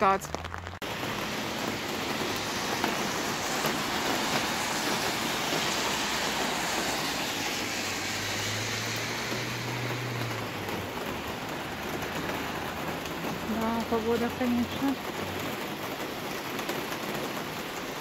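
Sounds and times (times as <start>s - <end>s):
vehicle engine hum: 0.0s - 16.0s
heavy rain: 0.0s - 18.0s
wind: 0.0s - 18.0s.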